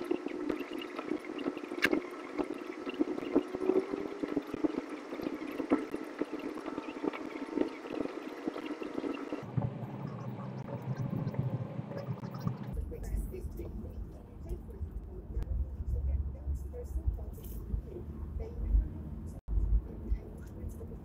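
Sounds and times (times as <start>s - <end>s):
car interior driving drone: 0.0s - 21.0s.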